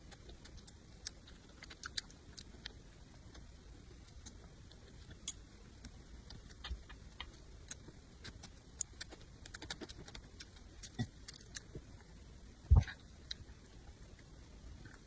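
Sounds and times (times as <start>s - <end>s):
crisp chewing: 0.0s - 15.0s.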